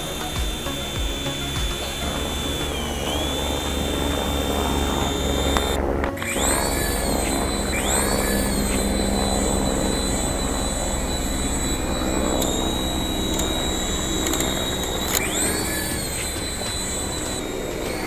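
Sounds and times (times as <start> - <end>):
toy helicopter motors whining: 0.0 - 18.0.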